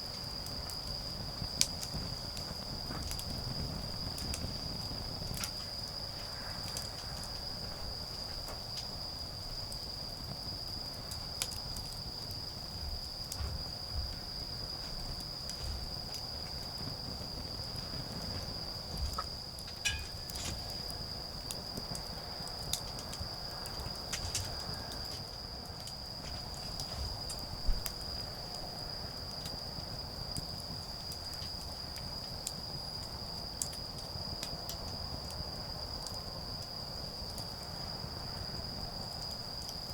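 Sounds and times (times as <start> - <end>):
crickets trilling: 0.0 - 39.9
campfire crackling and popping: 0.1 - 36.6.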